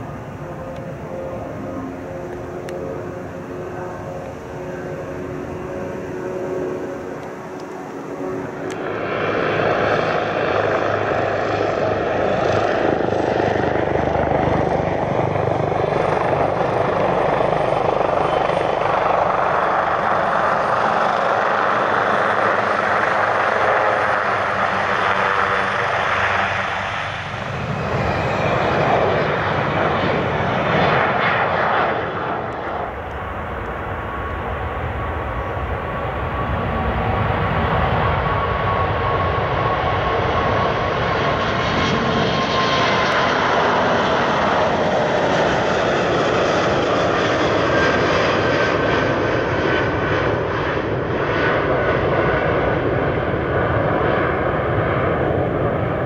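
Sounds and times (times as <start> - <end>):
helicopter flying low: 0.0 - 56.0
jet airliner engine on takeoff: 0.0 - 56.0.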